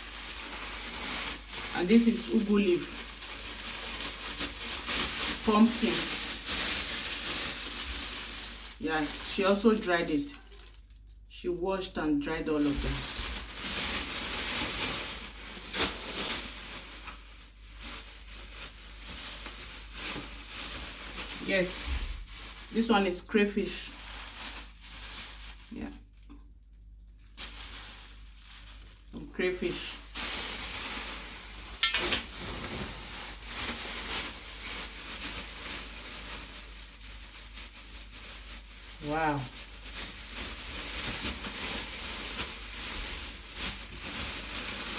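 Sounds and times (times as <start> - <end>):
sharp crackle: 0.0 - 11.0, 12.6 - 44.9
plastic packaging crinkling: 0.0 - 11.3, 12.2 - 44.9.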